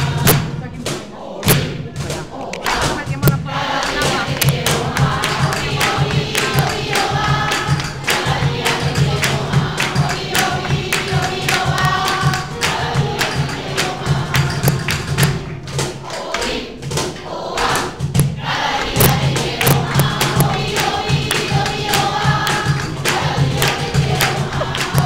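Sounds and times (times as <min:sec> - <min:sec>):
choir singing: 0:00.0 - 0:25.0
rhythmic hand-clapping: 0:00.0 - 0:25.0.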